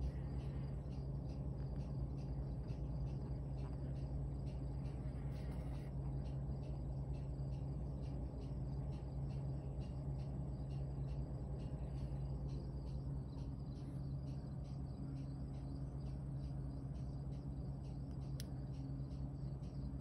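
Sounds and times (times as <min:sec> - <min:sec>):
cricket chirping: 0:00.0 - 0:20.0
steady low hum: 0:00.0 - 0:20.0.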